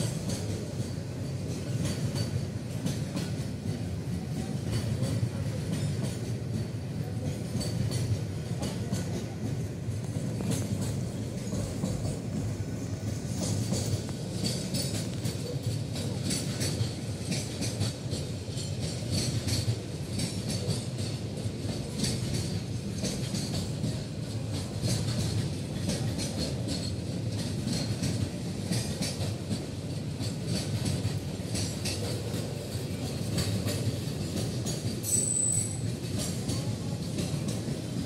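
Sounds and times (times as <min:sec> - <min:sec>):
freight train wheels rumbling: 0:00.0 - 0:38.0
wheels clacking over rail joints: 0:00.0 - 0:38.0.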